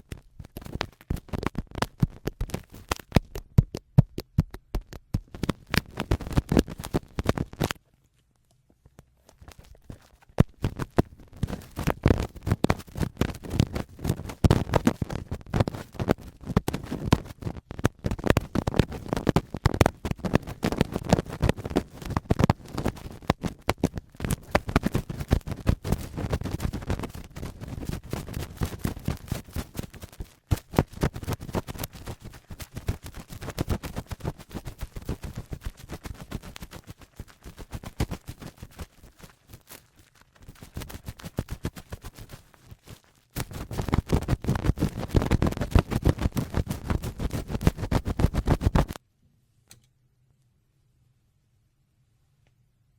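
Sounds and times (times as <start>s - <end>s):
cotton swab scraping microphone: 0.0s - 7.9s, 9.2s - 49.0s.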